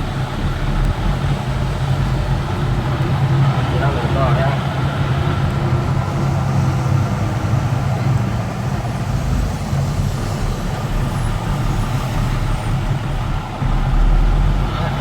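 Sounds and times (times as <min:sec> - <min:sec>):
deep rumble: 0:00.0 - 0:15.0
large vehicle engine humming: 0:00.0 - 0:15.0
traffic rushing noise: 0:00.0 - 0:15.0.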